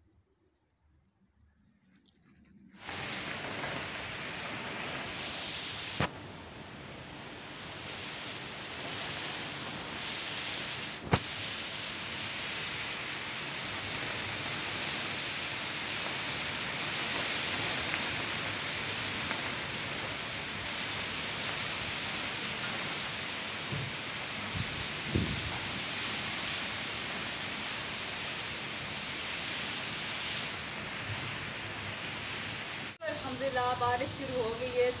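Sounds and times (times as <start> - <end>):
heavy rain pouring: 2.8 - 35.0.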